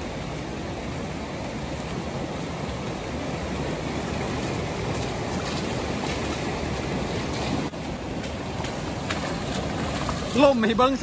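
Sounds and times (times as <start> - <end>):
stream running over rock: 0.0 - 11.0
feet splashing in water: 1.9 - 11.0.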